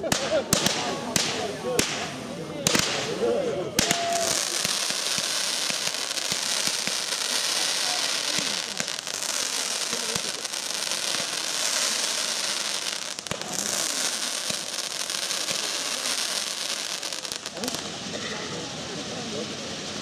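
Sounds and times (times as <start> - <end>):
sharp fireworks pops: 0.0 - 18.6
fireworks hissing and crackling: 0.0 - 20.0.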